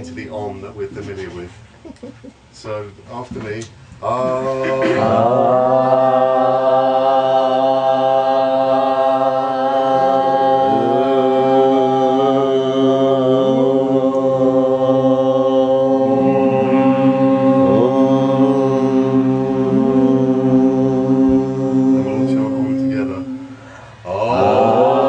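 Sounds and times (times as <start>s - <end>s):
group chanting om: 4.0s - 25.0s.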